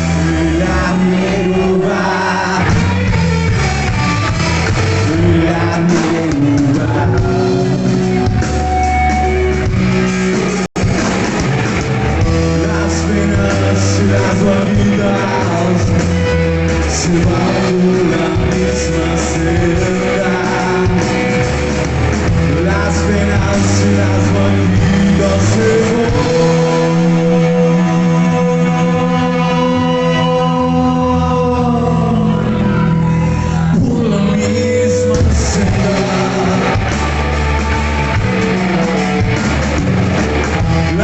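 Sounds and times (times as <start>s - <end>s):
person singing: 0.0s - 4.1s, 4.7s - 9.3s, 12.2s - 39.6s
electric guitar: 0.0s - 41.0s
rock band playing live: 0.0s - 41.0s.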